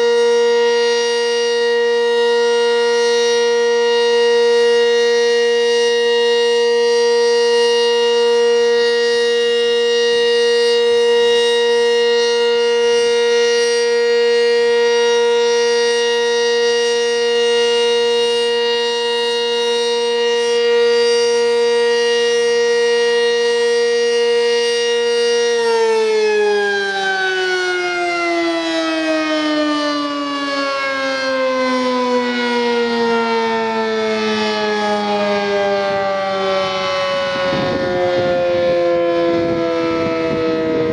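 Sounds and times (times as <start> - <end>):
dual-tone warning siren: 0.0 - 40.9.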